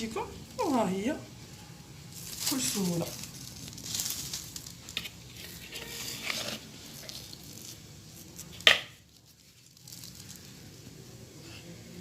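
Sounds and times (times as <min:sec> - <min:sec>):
hands shaping dough: 0:00.0 - 0:12.0.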